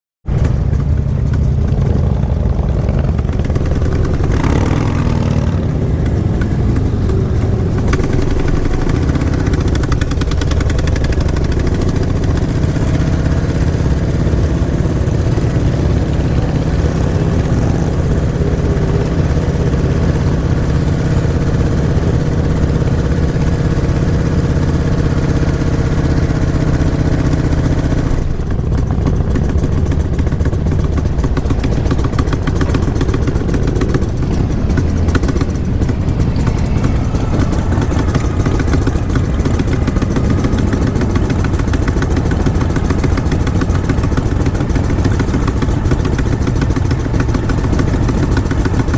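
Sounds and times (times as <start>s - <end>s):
motorcycle engine rumbling: 0.2s - 48.9s.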